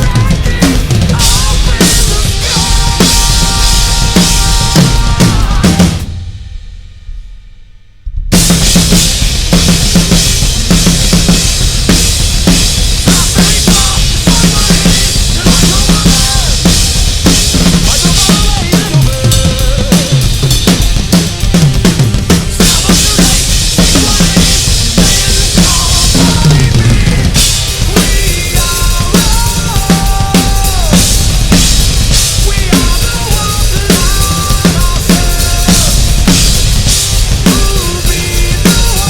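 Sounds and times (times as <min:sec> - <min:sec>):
recorded rock song: 0:00.0 - 0:07.5, 0:08.2 - 0:39.0
drum kit playing: 0:00.0 - 0:39.0.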